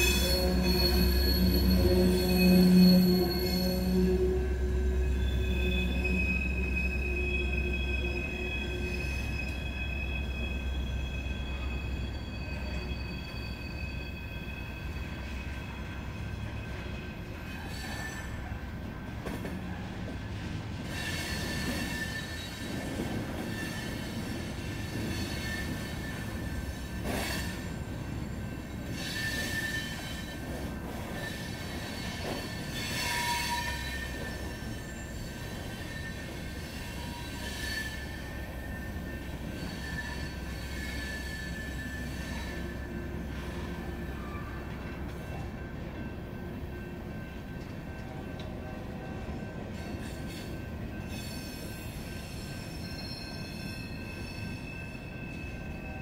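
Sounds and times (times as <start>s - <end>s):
train wheels squealing on rails: 0.0s - 56.0s.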